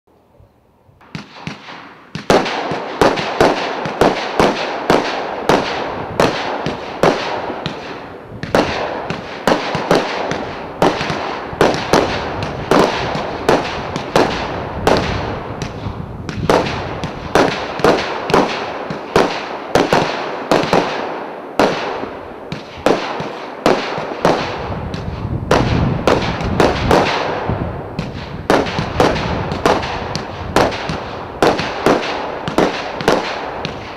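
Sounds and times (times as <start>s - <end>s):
firework cake bangs: 1.0s - 33.9s.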